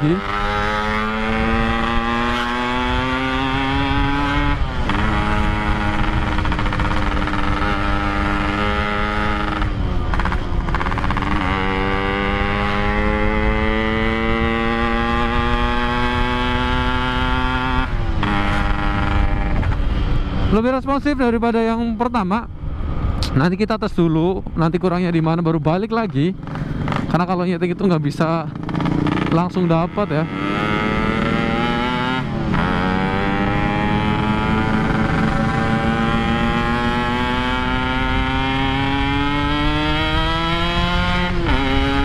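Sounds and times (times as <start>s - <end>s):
two-stroke motorcycle accelerating: 0.0s - 42.0s.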